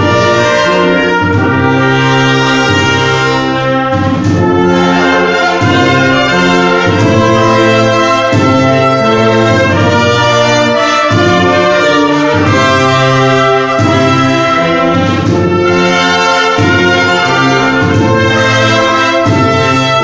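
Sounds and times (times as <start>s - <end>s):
brass ensemble playing chords: 0.0s - 20.0s.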